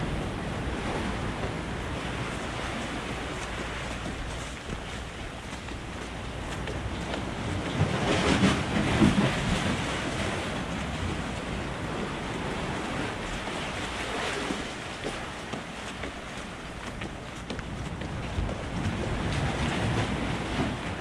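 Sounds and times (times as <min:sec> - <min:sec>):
sea waves washing: 0:00.0 - 0:21.0
wind buffeting microphone: 0:00.0 - 0:21.0.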